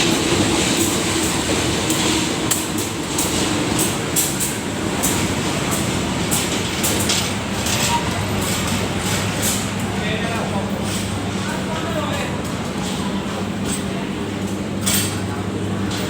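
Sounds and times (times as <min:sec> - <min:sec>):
train rumbling on track: 0:00.0 - 0:16.0
wheels clicking and clacking: 0:00.0 - 0:16.0.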